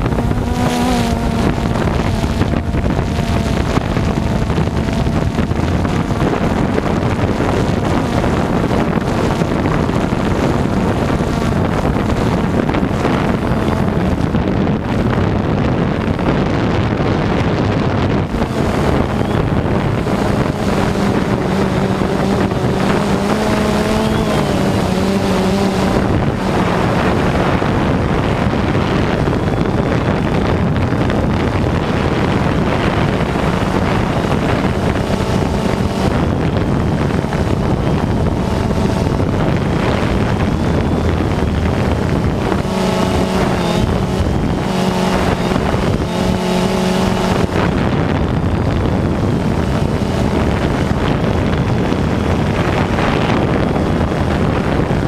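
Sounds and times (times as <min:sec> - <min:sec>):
drone motors and propellers: 0:00.0 - 0:55.0
wind buffeting microphone: 0:00.0 - 0:55.0.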